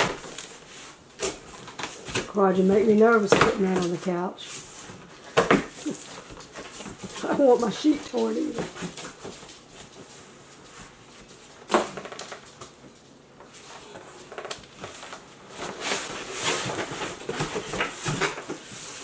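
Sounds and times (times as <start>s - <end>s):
cardboard rustling and scraping: 0.0s - 19.0s.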